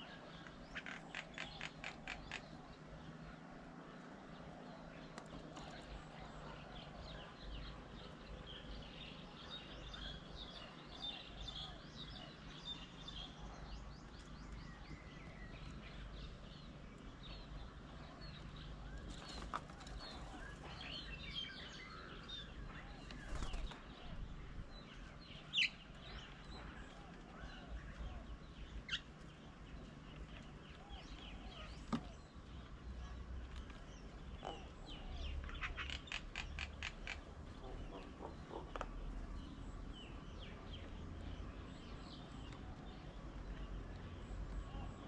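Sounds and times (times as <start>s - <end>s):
birds chirping and calling: 0.0s - 45.0s.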